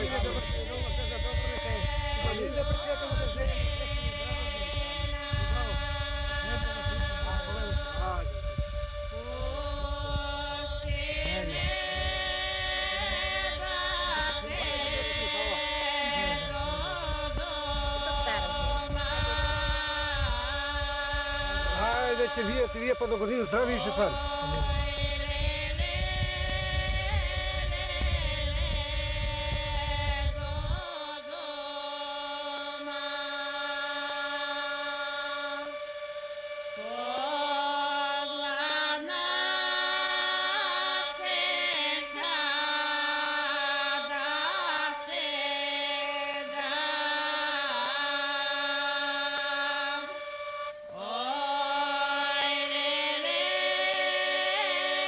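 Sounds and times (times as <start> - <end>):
steady drone: 0.0 - 55.0
voices singing held notes: 0.0 - 55.0.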